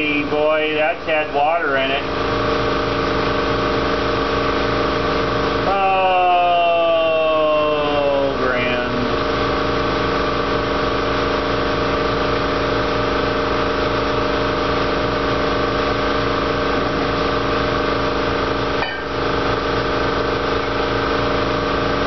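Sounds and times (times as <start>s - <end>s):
machine drone: 0.0s - 22.0s.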